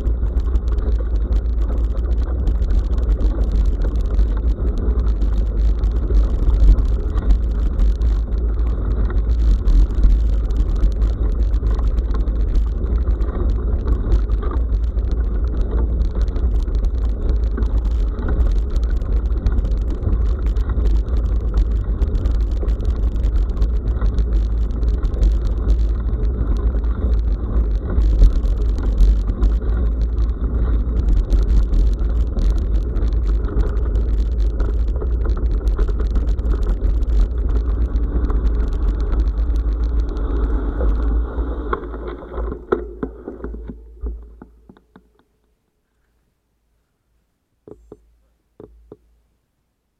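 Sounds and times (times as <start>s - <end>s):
bicycle rattle: 0.0s - 45.4s
wind and road vibration rumble: 0.0s - 45.6s.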